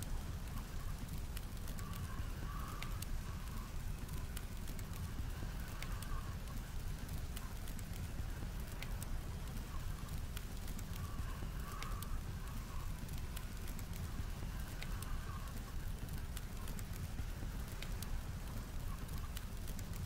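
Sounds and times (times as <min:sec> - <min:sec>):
campfire crackling and popping: 0:00.0 - 0:20.0
low rumble of blizzard wind: 0:00.0 - 0:20.0.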